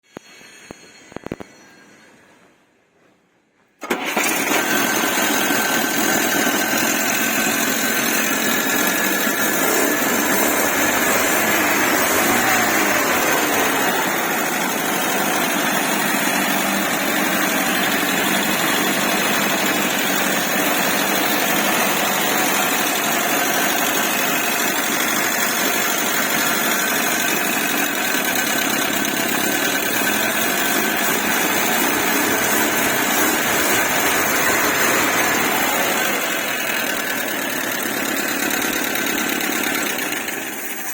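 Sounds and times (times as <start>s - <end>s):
car engine idling: 3.8s - 40.9s.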